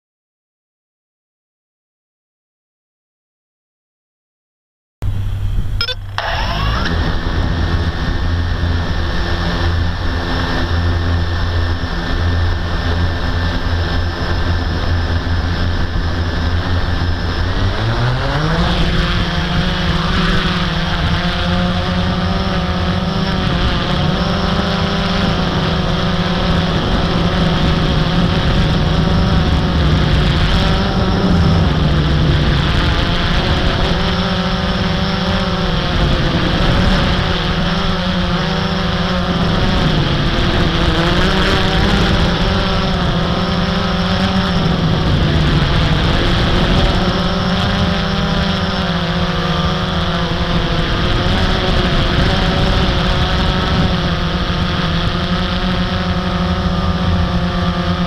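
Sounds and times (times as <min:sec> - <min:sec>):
quadcopter motors and propellers: 0:05.0 - 0:58.0.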